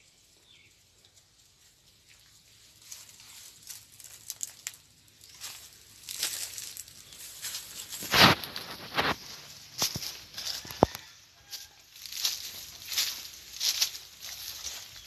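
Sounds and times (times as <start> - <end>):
dry leaves rustling and crackling: 1.1 - 15.0.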